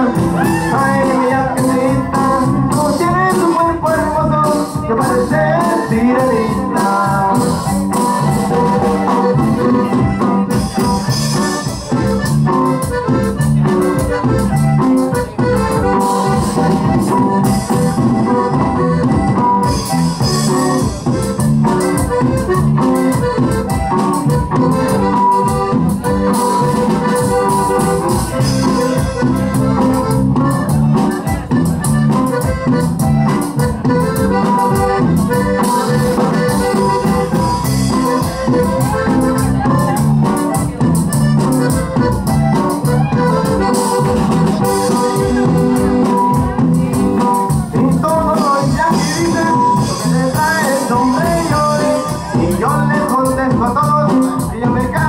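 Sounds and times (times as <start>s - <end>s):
accordion: 0.0s - 55.0s
band playing dance music: 0.0s - 55.0s.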